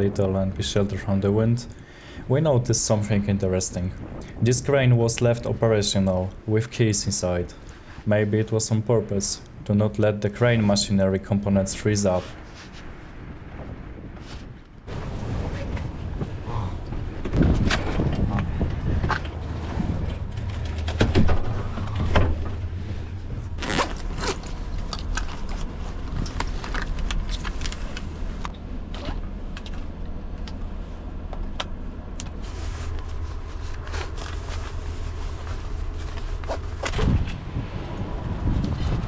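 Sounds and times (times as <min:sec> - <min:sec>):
low wind rumble: 0:00.0 - 0:39.0.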